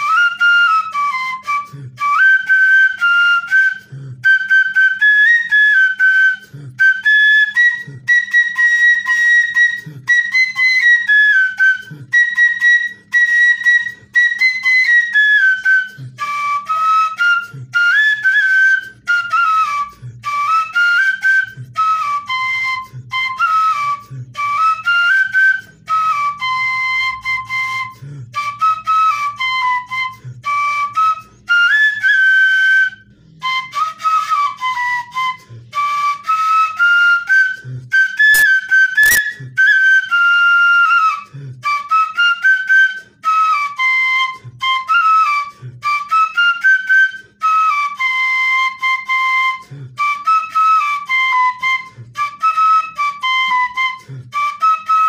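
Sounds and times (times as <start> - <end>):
flute-like melody: 0.0 - 55.0.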